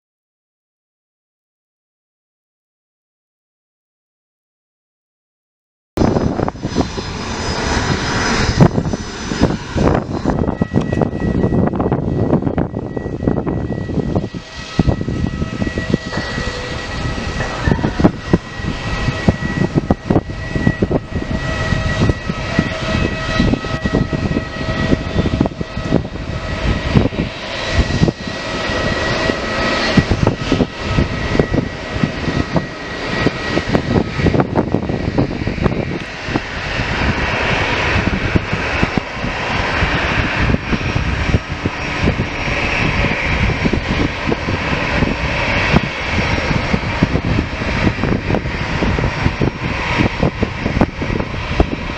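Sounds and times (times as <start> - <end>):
airliner engines rumbling: 6.0 - 51.9.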